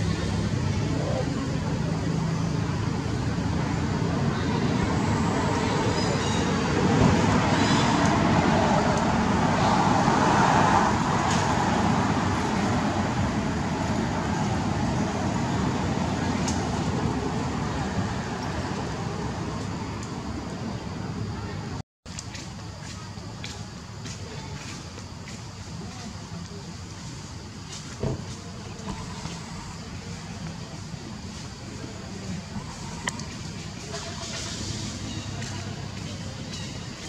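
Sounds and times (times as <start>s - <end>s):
outdoor rumble and hiss: 0.0s - 37.0s.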